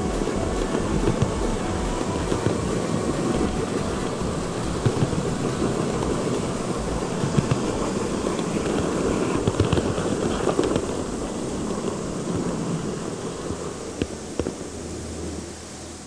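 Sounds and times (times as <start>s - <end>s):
model train wheels rumbling on rail: 0.0s - 16.0s.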